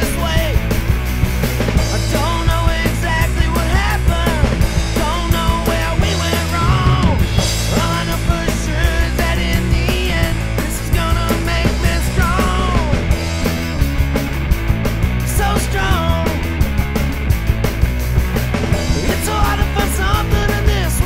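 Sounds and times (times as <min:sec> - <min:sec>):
rock song with drums and bass: 0:00.0 - 0:21.0.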